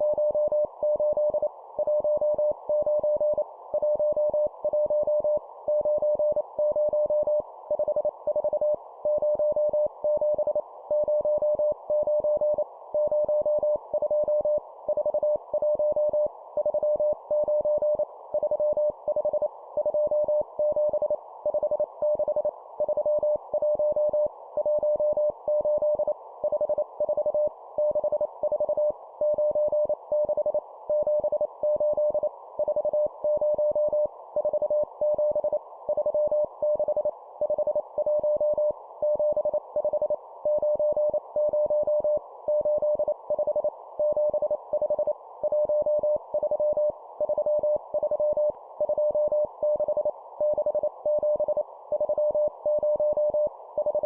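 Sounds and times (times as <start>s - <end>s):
morse code beeps: 0.0s - 54.0s.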